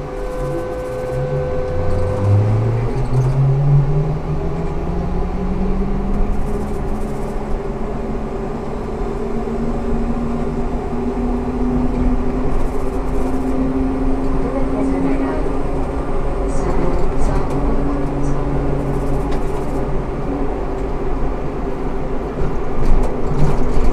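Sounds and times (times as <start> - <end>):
electric trolleybus drive hum: 0.0 - 23.9
low rumble of the ride: 0.0 - 23.9.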